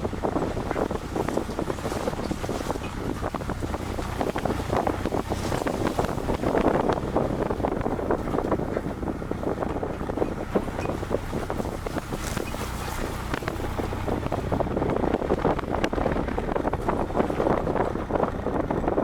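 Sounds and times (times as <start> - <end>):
engine and road drone: 0.0 - 19.0
wind buffeting microphone: 0.0 - 19.0.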